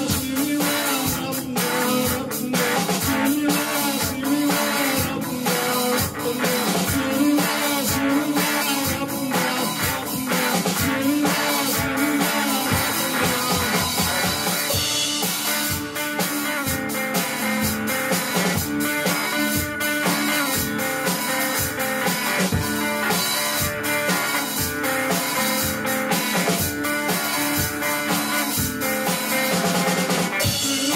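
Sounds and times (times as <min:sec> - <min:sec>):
drum kit steady beat: 0:00.0 - 0:30.9
electric guitars: 0:00.0 - 0:30.9
rock band playing: 0:00.0 - 0:30.9.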